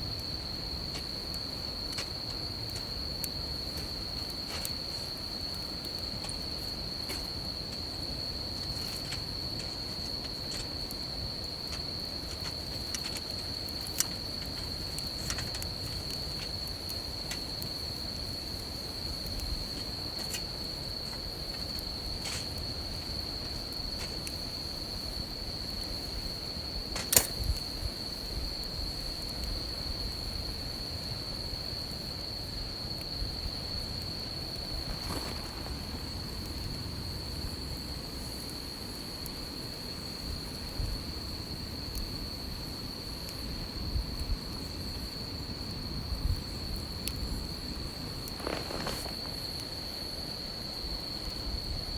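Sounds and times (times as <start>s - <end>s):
sharp crack of fire: 0.0s - 50.6s
campfire crackling: 0.0s - 51.9s
high insect trill: 0.0s - 51.9s.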